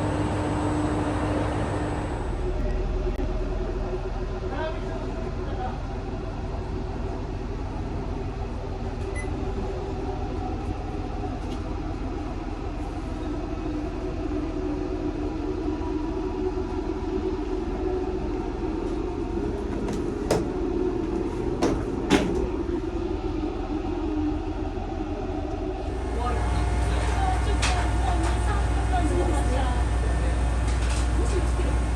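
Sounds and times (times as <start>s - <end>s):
railcar rumble and drone: 0.0s - 31.9s.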